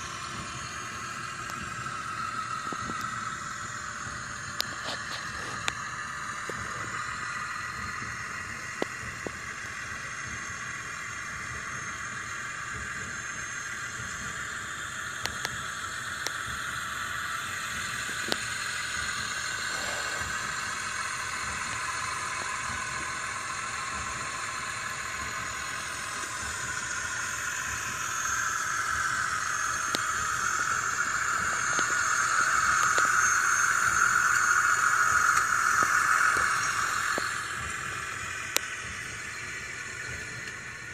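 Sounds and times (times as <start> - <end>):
engine-like running noise: 0.0 - 40.9.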